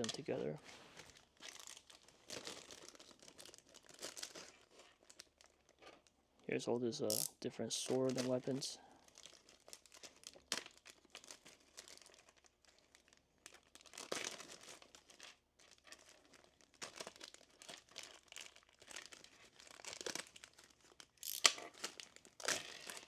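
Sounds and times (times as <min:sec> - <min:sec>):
plastic packaging crinkling: 0:00.0 - 0:06.2, 0:07.1 - 0:23.0.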